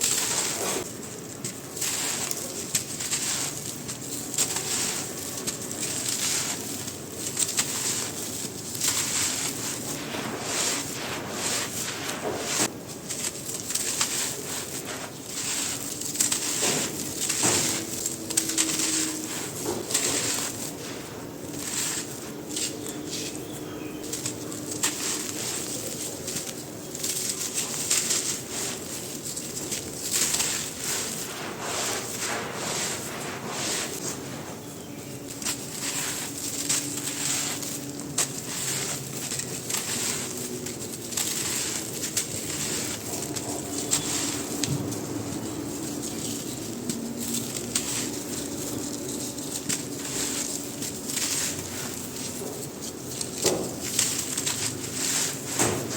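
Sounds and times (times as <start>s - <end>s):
sand crumbling and crunching: 0.0s - 55.9s.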